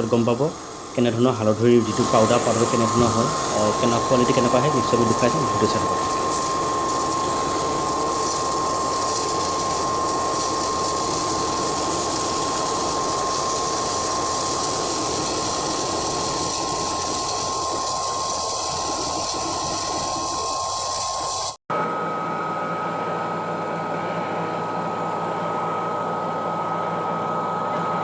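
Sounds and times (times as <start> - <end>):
grinder running with high whine: 0.0 - 28.0.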